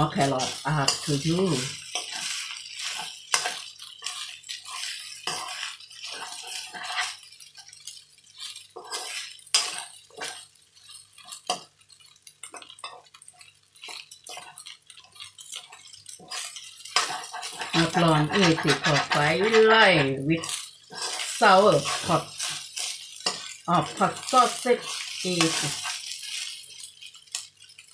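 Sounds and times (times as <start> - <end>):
metal spoon scraping a wok: 0.0 - 27.9.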